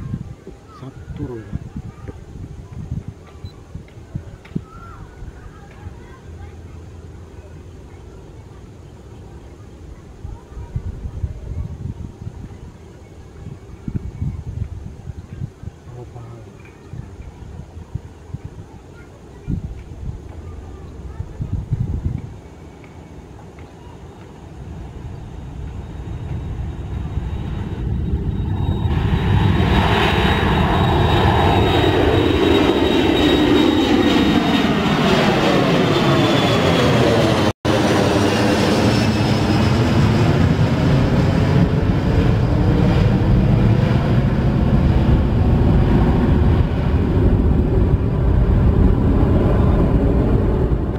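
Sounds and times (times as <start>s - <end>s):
jet airliner engines roaring: 0.0s - 50.9s.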